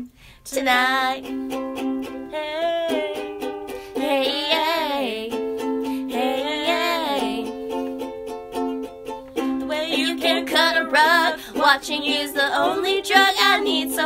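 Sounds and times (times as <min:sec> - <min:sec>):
person singing wordless melody: 0:00.0 - 0:08.0, 0:09.4 - 0:14.0.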